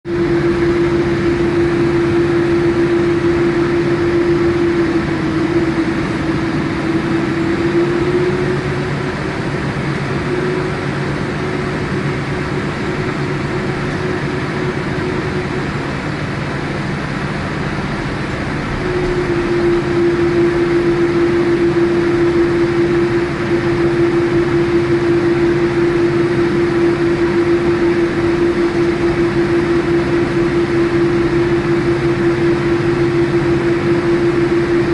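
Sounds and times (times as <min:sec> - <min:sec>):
clear steady tone: 0:00.0 - 0:34.9
jet engines running at low power: 0:00.0 - 0:34.9.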